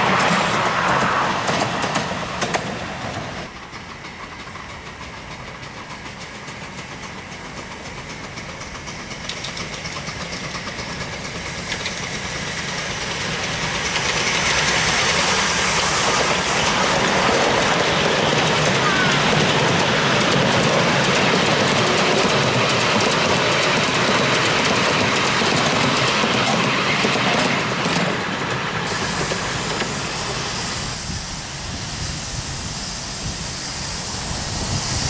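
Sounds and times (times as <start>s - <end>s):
miniature train rattling away: 0.0s - 35.0s
steam locomotive passing: 0.0s - 35.0s.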